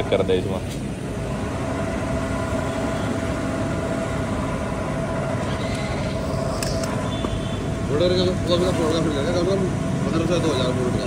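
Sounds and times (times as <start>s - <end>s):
fuel dispenser humming: 1.0s - 11.0s.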